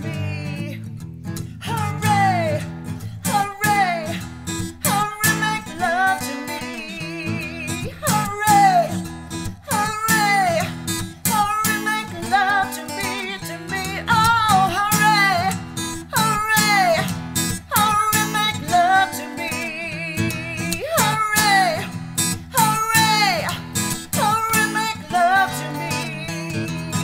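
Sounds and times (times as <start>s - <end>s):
acoustic guitar: 0.0s - 27.0s
woman singing: 0.0s - 27.0s.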